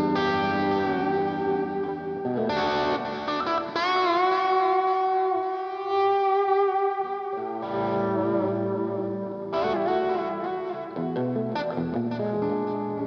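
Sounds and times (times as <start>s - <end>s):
overdriven electric guitar blues lead: 0.0s - 13.0s.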